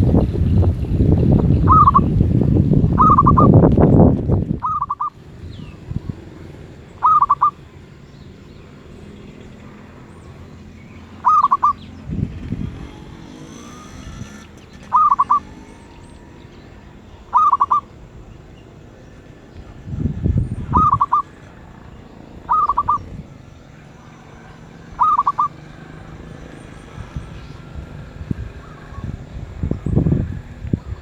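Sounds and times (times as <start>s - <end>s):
dove cooing: 0.0s - 2.2s, 2.9s - 3.6s, 4.6s - 7.9s, 9.6s - 31.0s.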